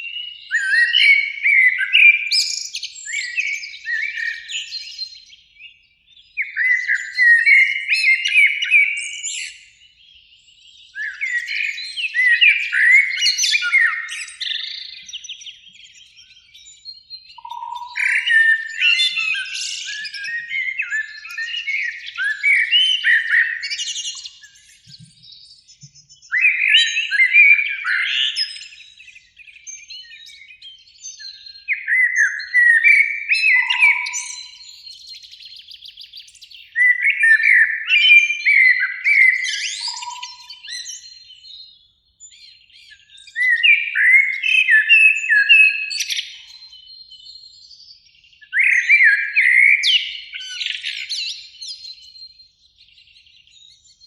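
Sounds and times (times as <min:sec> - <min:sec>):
blackbird singing: 0:00.0 - 0:54.0.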